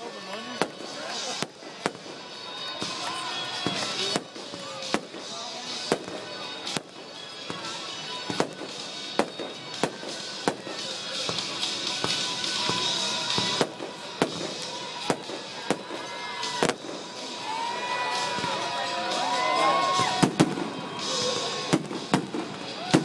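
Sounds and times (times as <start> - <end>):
crackling hiss of fireworks: 0.0 - 23.0
fireworks bangs: 0.4 - 18.7, 19.3 - 23.0.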